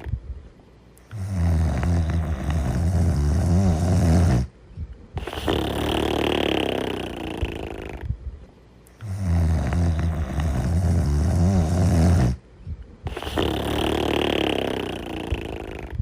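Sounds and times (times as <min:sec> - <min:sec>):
person snoring: 0:01.0 - 0:04.5, 0:05.2 - 0:08.1, 0:08.9 - 0:12.4, 0:13.1 - 0:16.0.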